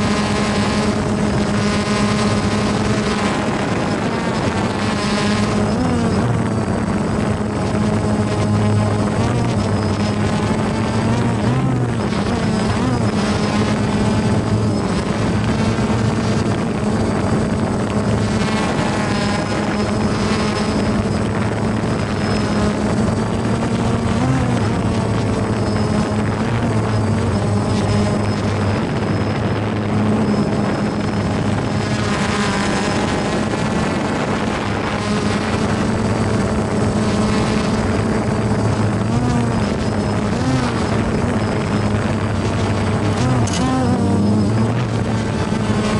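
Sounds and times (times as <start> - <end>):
drone propellers buzzing: 0.0 - 45.9.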